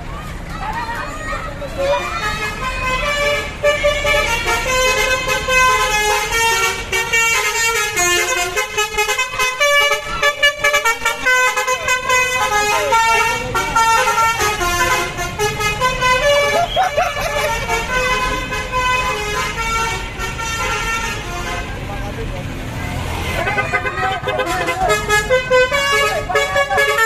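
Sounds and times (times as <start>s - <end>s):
musical bus horn melody: 1.9s - 21.9s, 23.0s - 27.0s.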